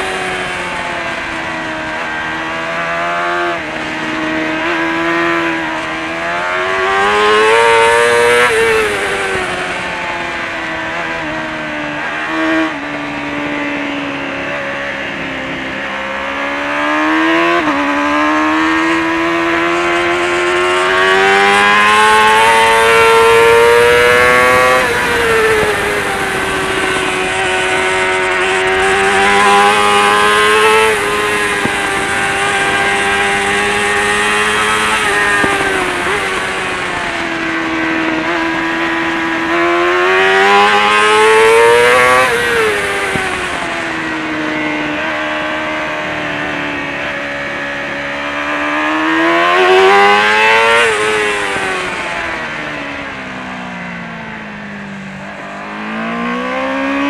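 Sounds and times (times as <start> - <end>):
race bike engine revving: 0.0 - 57.0.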